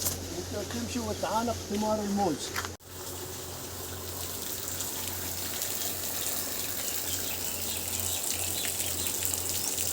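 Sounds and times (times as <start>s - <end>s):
running water: 0.0s - 9.9s.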